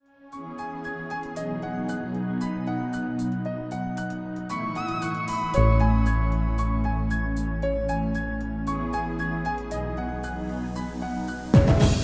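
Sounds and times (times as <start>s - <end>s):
soft new-age music: 0.0s - 12.0s.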